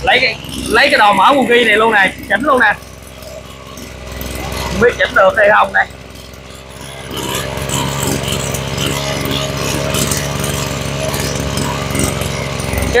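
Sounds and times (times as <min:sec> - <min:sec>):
small petrol engine idling: 0:00.0 - 0:13.0.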